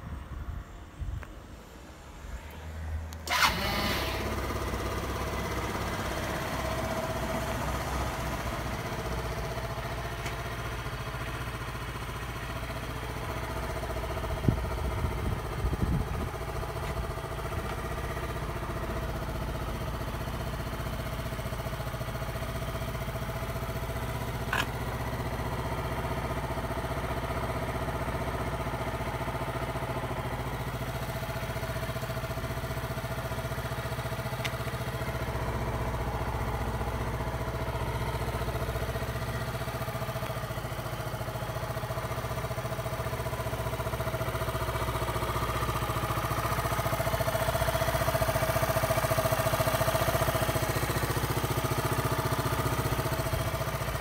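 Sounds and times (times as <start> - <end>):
scooter engine starting and idling: 3.1 - 54.0.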